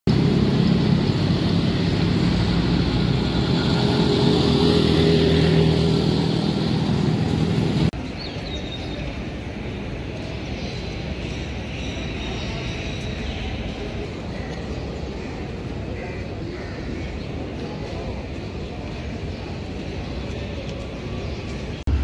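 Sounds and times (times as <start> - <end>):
motorcycle and rickshaw engines: 0.1 - 22.0.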